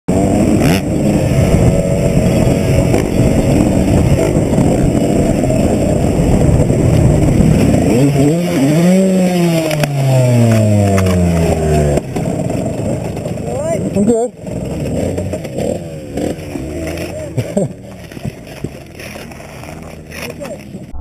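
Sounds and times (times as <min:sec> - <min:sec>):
dirt bike engine revving: 0:00.1 - 0:21.0.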